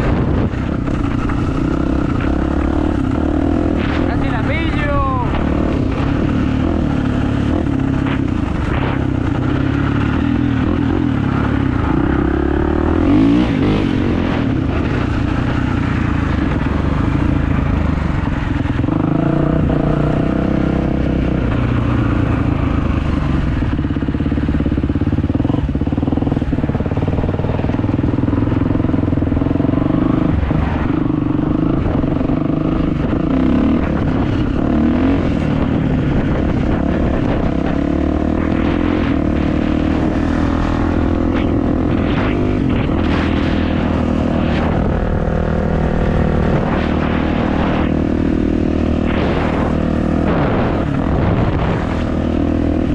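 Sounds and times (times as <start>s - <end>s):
motocross bike engine running: 0.0s - 52.9s.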